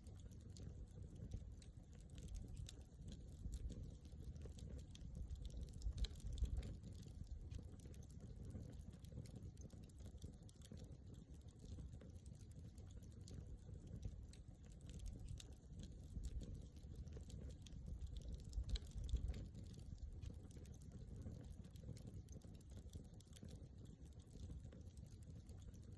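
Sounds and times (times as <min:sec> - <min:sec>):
campfire crackling: 0:00.0 - 0:25.9.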